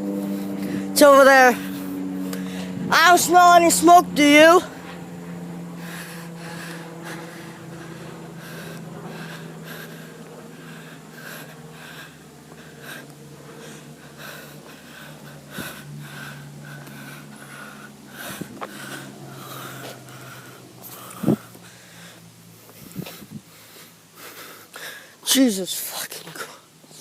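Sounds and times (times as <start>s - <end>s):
heavy breathing: 0.0s - 2.9s, 4.7s - 25.2s
steady low hum: 0.0s - 27.0s.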